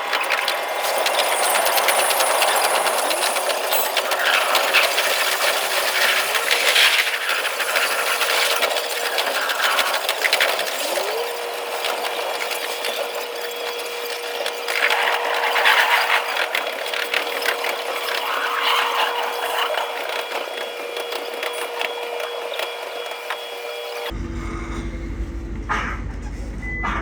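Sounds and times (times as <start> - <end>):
train motor whine: 0.0 - 27.0.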